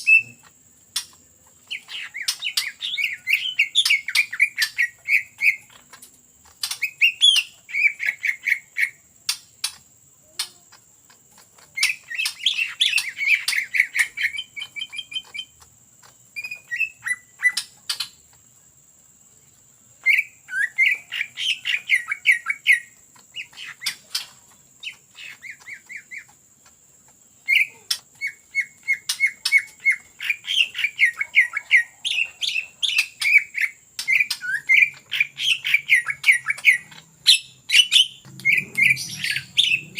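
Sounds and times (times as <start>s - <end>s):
bird singing rapid notes: 0.0s - 18.6s, 19.9s - 39.9s.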